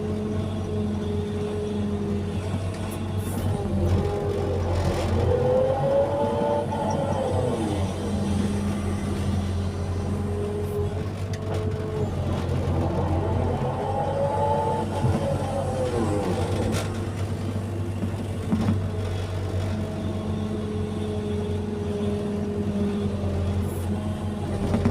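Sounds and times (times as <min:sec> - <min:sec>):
diesel engine running under load: 0:00.0 - 0:24.9.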